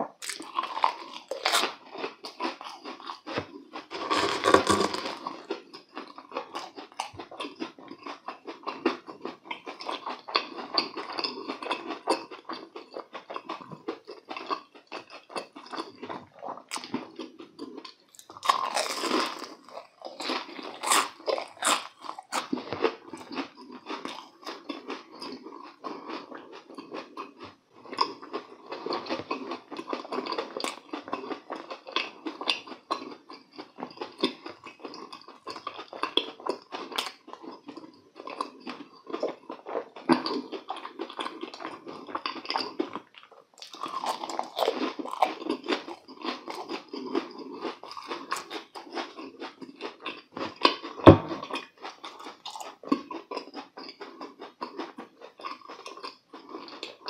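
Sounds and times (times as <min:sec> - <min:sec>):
chewing: 0:00.1 - 0:57.0
crunching bites of fried food: 0:00.1 - 0:57.0.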